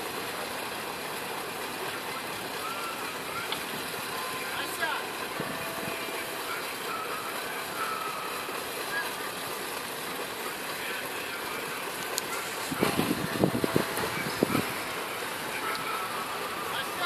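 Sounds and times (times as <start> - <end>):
outdoor background noise: 0.0 - 17.0
faint distant voices: 0.1 - 17.0.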